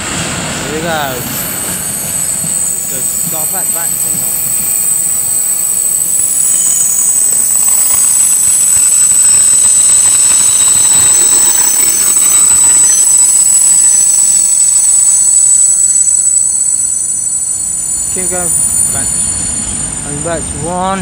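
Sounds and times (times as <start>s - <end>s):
train wheels squealing: 0.0s - 21.0s.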